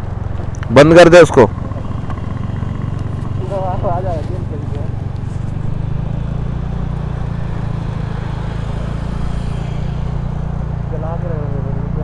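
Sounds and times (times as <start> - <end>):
motorbike engine running: 0.0 - 12.0
road and wind noise: 0.0 - 12.0.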